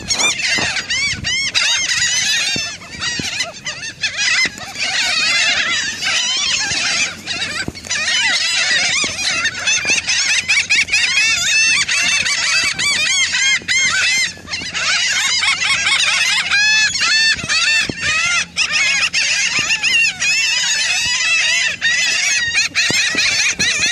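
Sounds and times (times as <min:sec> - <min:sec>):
gulls calling: 0:00.0 - 0:23.9.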